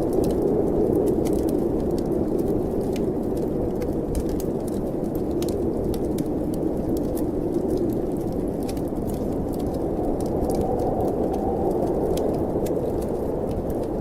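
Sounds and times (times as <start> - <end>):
snowstorm wind blowing: 0.0 - 14.0
wood fire crackling: 0.0 - 14.0.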